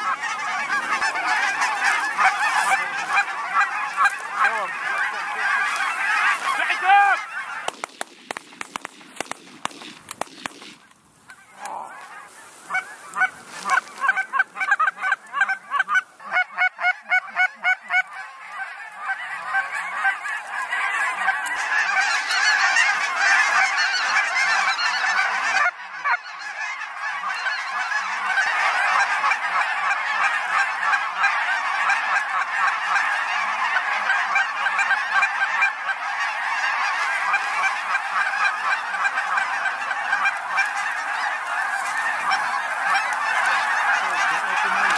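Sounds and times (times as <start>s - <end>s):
geese honking: 0.0s - 44.9s.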